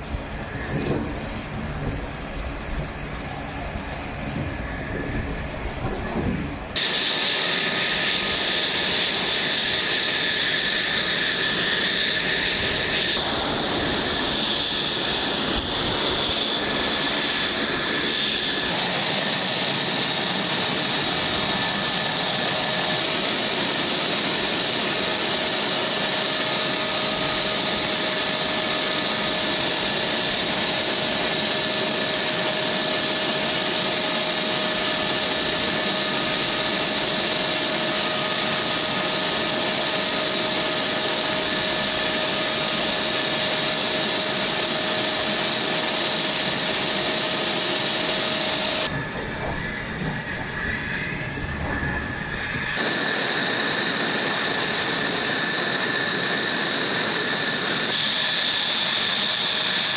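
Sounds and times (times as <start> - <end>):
jet engine whine: 0.0 - 59.9.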